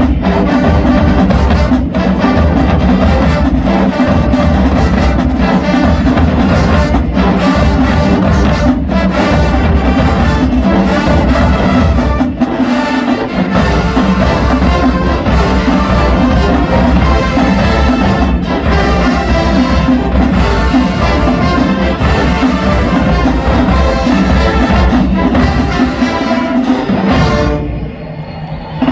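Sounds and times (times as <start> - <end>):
low drums: 0.0 - 28.0
marching band playing: 0.0 - 28.9.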